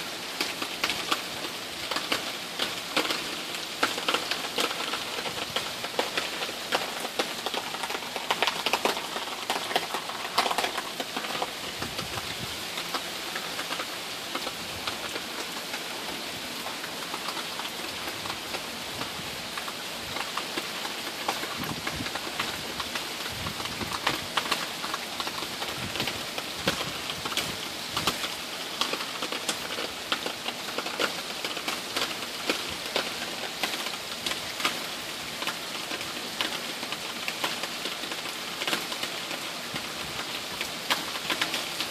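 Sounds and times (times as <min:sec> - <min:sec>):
light wind: 0:00.0 - 0:41.9
rain on foliage and ground: 0:00.0 - 0:41.9.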